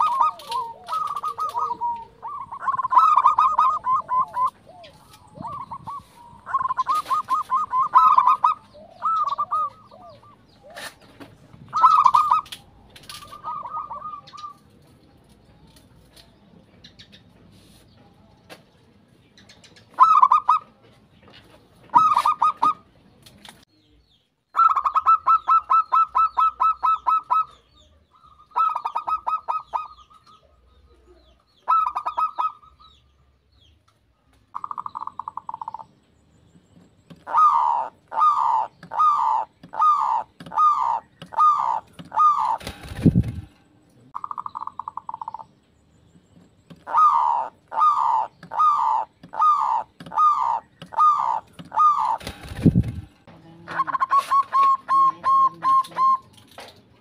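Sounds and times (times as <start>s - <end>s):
doves cooing: 0.0s - 15.0s, 19.6s - 20.8s, 21.8s - 22.9s, 24.6s - 32.9s, 34.5s - 36.0s, 36.8s - 45.6s, 46.5s - 56.5s.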